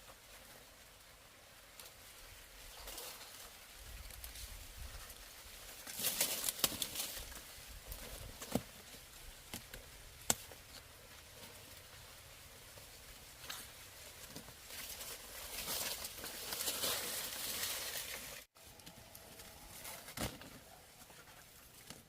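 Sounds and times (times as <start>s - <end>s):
rustling: 0.0s - 22.0s.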